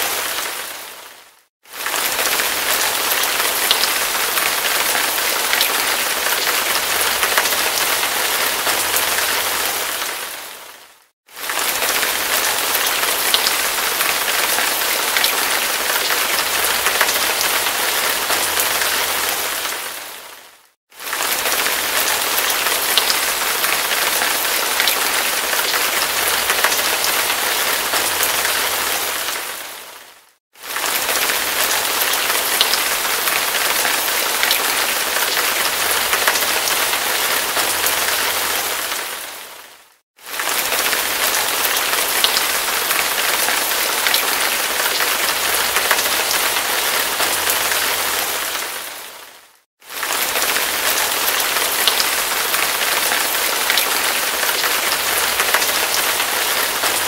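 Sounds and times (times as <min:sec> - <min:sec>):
hard rain falling: 0:00.0 - 0:57.0.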